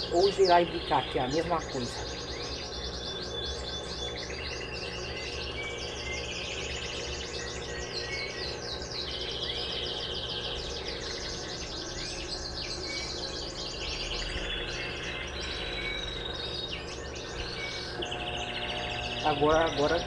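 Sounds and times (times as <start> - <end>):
birds chirping in fast trills: 0.0 - 20.0
steady low hum: 0.0 - 20.0.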